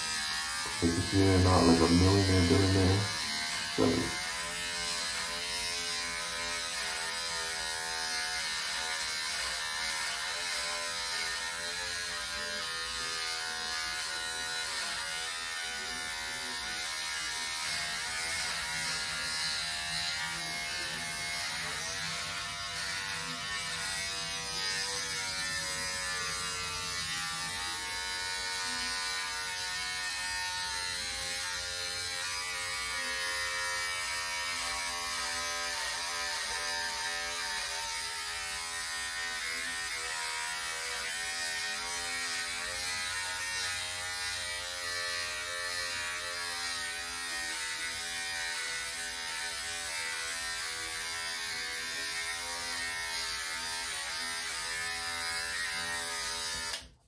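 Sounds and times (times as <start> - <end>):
electric shaver buzzing: 0.0 - 57.0.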